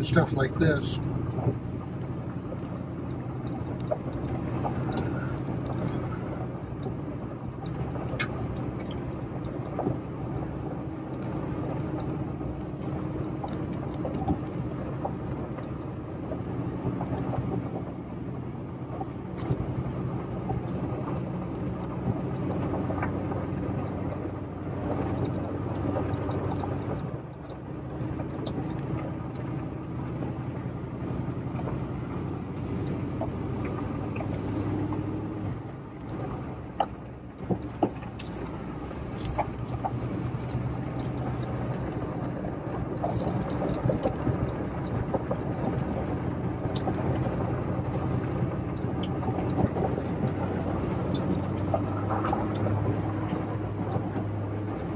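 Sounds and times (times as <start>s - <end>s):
gravel crunching under tyres: 0.0s - 54.9s
truck engine hum: 0.0s - 54.9s.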